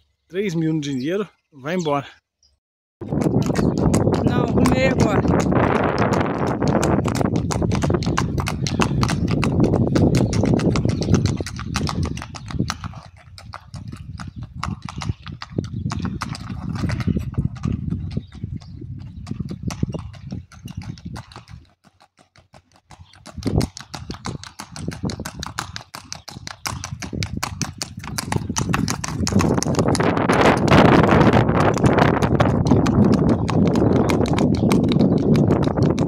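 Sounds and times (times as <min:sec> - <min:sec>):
horse hooves on pavement: 0:03.0 - 0:36.0.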